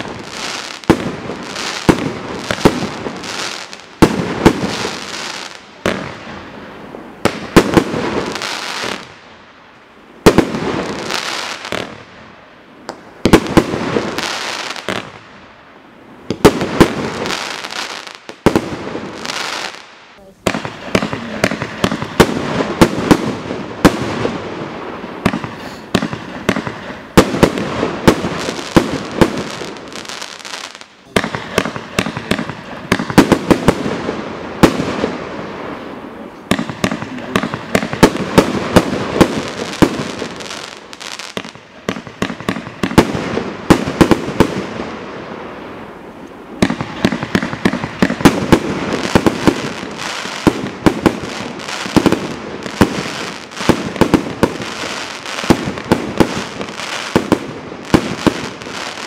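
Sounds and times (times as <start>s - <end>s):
fireworks crackling: 0.0s - 59.0s
fireworks launching and bursting: 0.0s - 59.0s.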